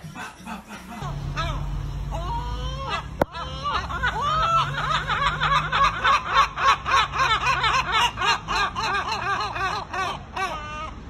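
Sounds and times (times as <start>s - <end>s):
gulls laughing calls: 0.0s - 11.0s.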